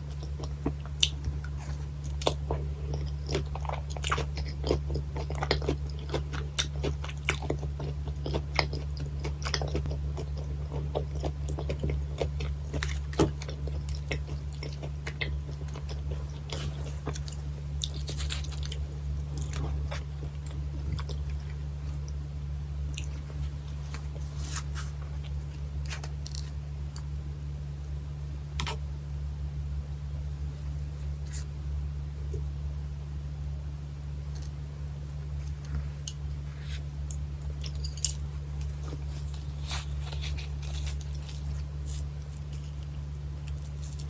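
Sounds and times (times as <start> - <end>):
chewing crunchy fish bones: 0.0 - 22.2, 22.8 - 27.1, 28.6 - 28.8, 35.3 - 44.0
steady low hum: 0.0 - 44.0.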